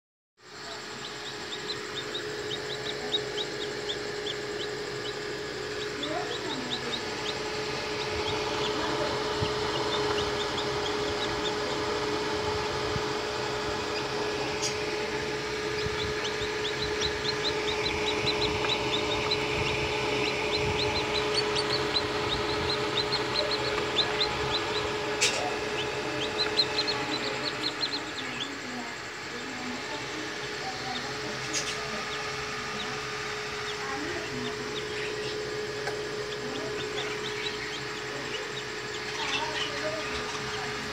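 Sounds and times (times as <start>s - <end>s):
chicks peeping: 0.4s - 40.9s
incubator hum: 0.4s - 40.9s.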